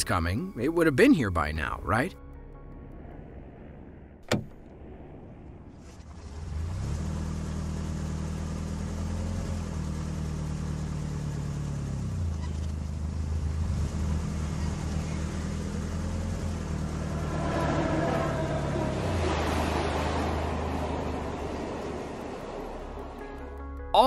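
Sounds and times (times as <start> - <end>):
engine droning: 2.4 - 23.8.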